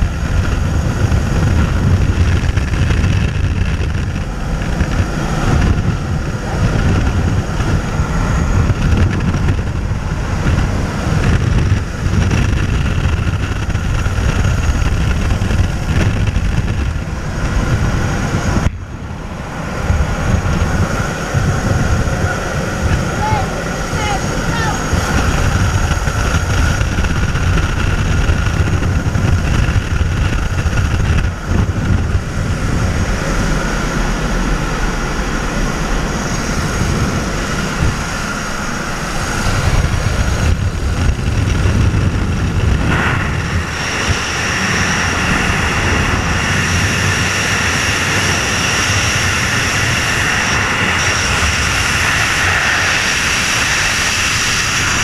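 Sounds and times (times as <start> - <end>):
aircraft engine and propeller: 0.0 - 55.0
freefall wind rushing: 0.0 - 55.0
slipstream rushing: 0.0 - 55.0.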